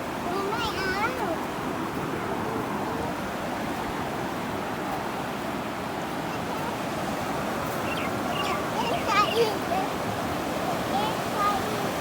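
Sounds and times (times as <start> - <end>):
sea waves washing on beach: 0.0 - 12.0.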